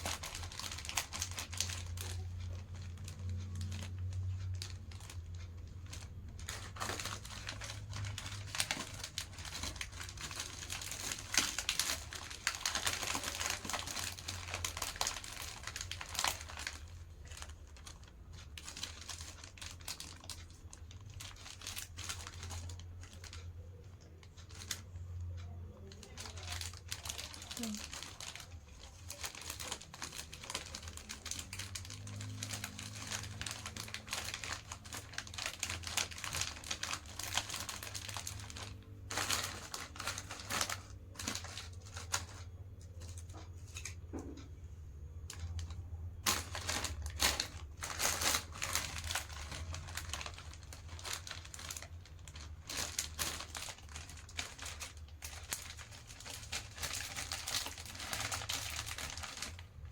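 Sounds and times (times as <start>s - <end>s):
plastic packets crinkling: 0.0s - 44.2s, 45.1s - 59.9s.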